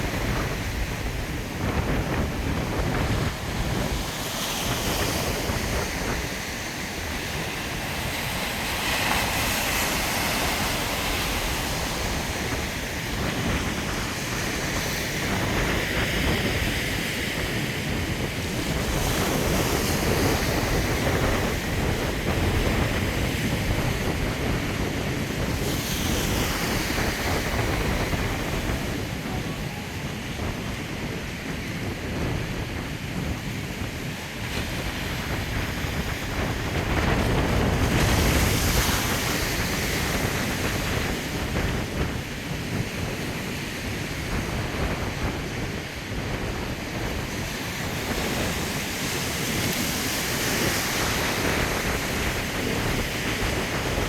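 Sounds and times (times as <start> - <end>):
ocean surf breaking: 0.0 - 54.0
wind buffeting microphone: 0.0 - 54.0.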